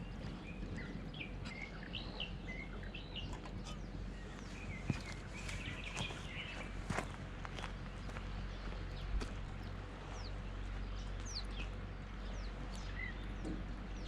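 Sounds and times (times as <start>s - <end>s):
birds chirping and whistling: 0.0s - 9.2s, 10.1s - 14.0s
steady low rumble: 0.0s - 14.0s.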